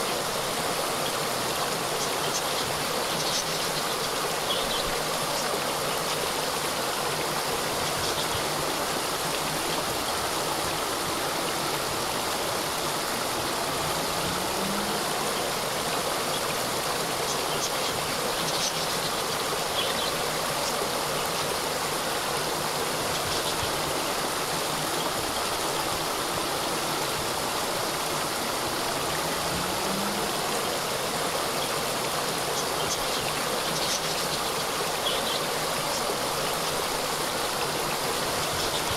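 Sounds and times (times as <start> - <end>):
small waterfall splashing: 0.0 - 38.9.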